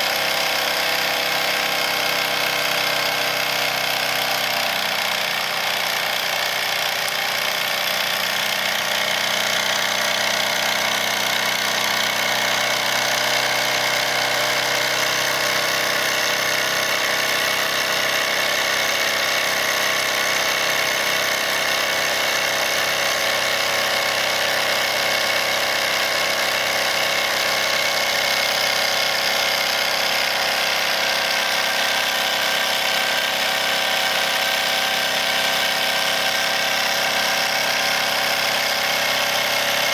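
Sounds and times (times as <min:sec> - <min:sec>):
toy steam engine whirring: 0:00.0 - 0:39.9.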